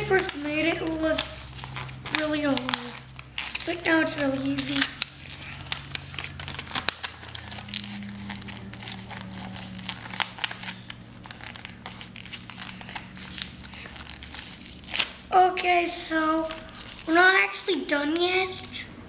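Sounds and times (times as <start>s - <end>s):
paper crinkling: 0.0s - 18.9s.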